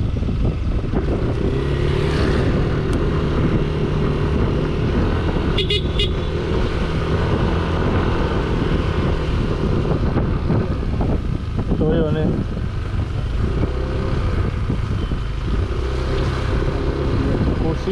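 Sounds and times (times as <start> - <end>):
wind on microphone: 0.0 - 17.9.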